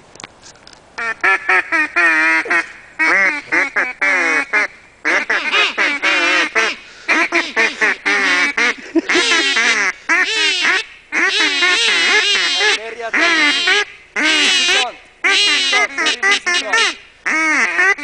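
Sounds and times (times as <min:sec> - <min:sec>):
duck quacking: 0:01.0 - 0:18.0.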